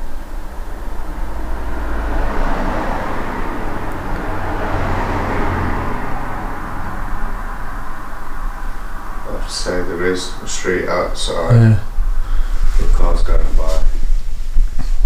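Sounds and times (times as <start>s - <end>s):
car passing on street: 0.0s - 14.6s.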